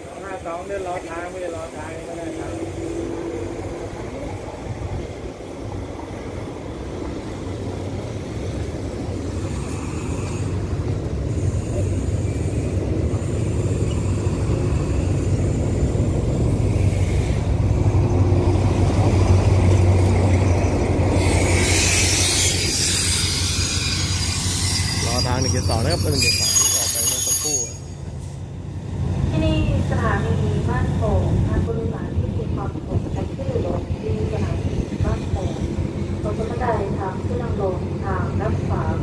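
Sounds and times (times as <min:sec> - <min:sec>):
diesel locomotive engine drone: 0:00.0 - 0:39.0.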